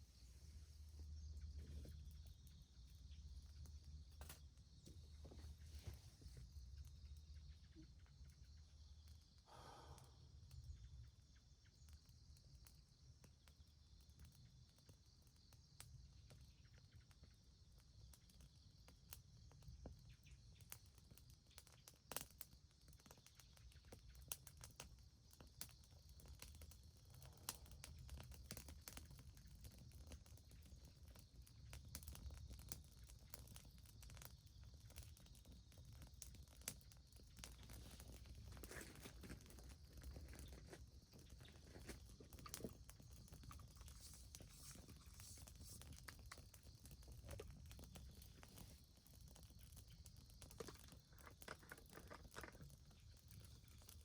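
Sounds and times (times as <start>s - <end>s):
small clicks and crackles: 1.4s - 9.4s, 10.5s - 54.0s.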